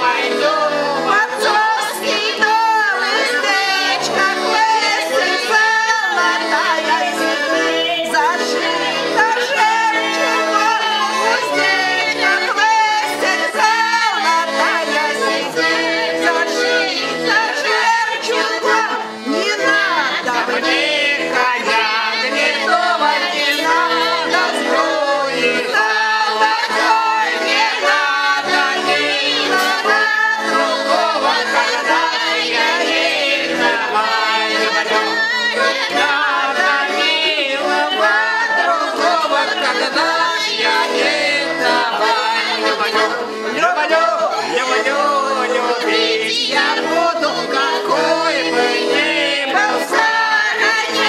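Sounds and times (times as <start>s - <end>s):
button accordion playing: 0.0s - 51.0s
group singing along: 0.0s - 51.0s.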